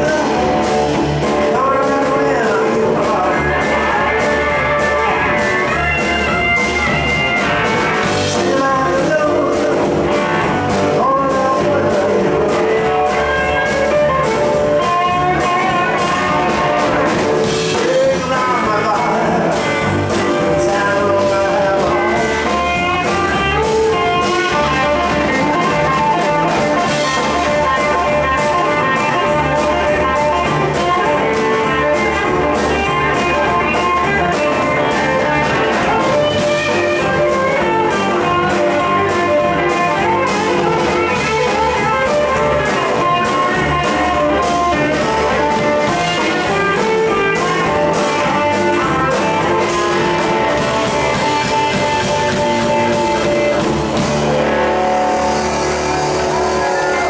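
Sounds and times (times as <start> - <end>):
electric guitars: 0.0 - 57.0
live electric blues band: 0.0 - 57.0.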